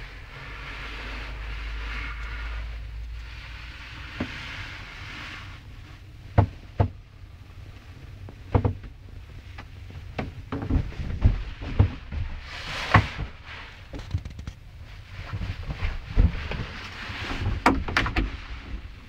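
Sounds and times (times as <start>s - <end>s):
low steady rumble and hiss: 0.0s - 19.0s.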